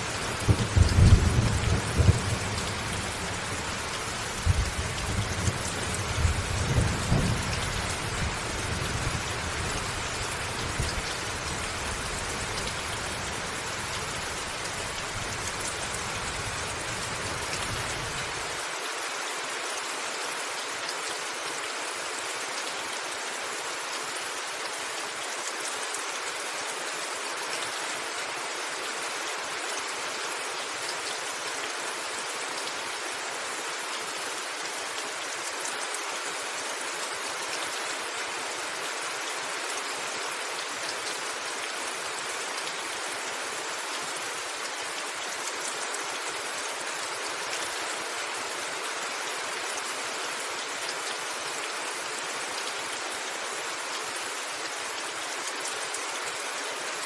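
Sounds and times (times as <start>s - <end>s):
rain falling on a roof: 0.0s - 57.0s.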